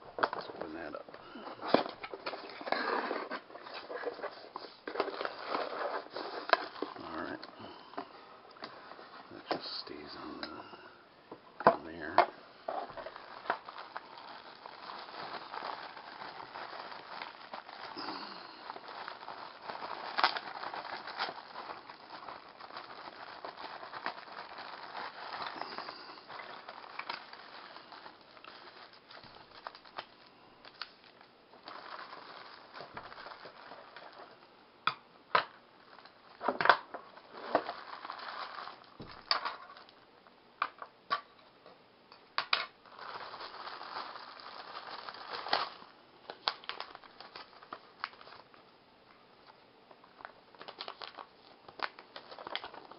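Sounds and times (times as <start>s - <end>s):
plastic packaging crinkling: 0.0s - 10.9s, 11.6s - 34.5s, 35.3s - 40.0s, 42.4s - 48.7s, 49.4s - 52.9s.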